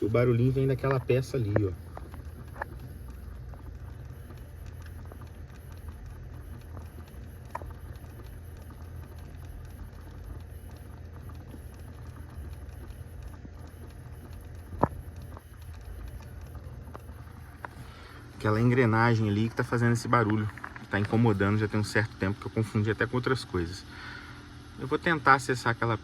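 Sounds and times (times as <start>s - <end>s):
actuator gears clicking: 0.0s - 22.5s.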